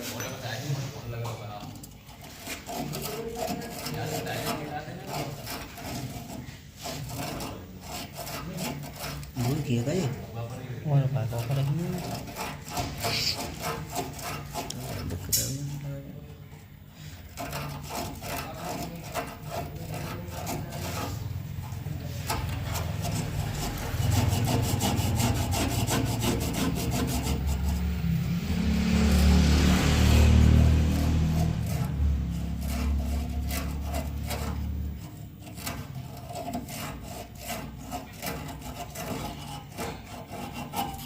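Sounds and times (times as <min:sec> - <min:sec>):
file scraping: 0:00.0 - 0:41.0.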